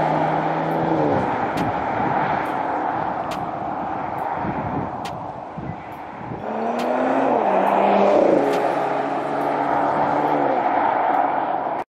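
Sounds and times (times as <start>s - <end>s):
car engine running: 0.0s - 11.5s.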